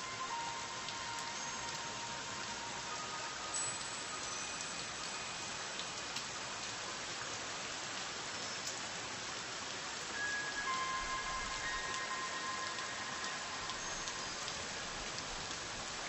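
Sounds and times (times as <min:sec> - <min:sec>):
soft background music: 0:00.0 - 0:07.0, 0:09.8 - 0:16.0
steady rain hiss: 0:00.0 - 0:16.0.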